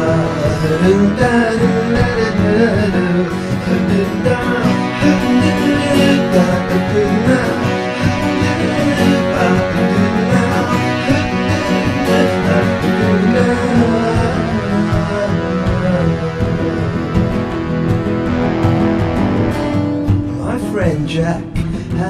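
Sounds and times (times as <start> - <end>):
guitar-led instrumental music: 0.0 - 22.0.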